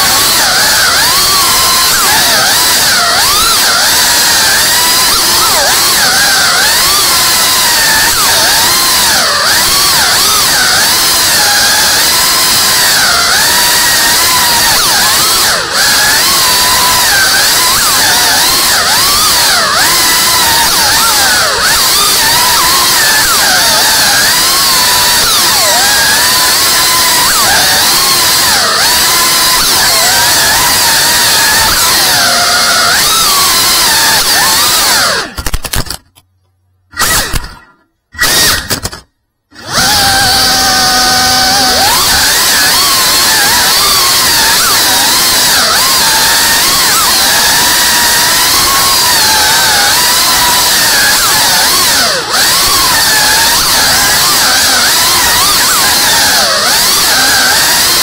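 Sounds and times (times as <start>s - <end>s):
quadcopter motors whining: 0.0s - 36.0s, 36.9s - 58.0s.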